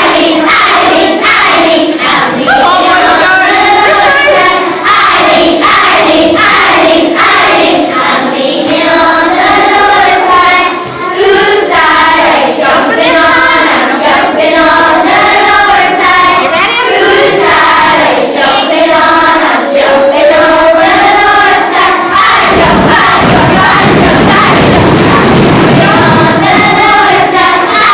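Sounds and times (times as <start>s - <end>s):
children singing: 0.0s - 27.9s.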